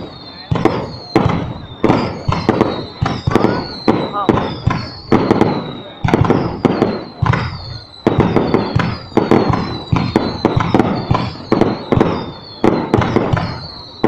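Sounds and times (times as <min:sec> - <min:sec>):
firework shells bursting: 0:00.0 - 0:14.0
fireworks crackling: 0:00.0 - 0:14.0.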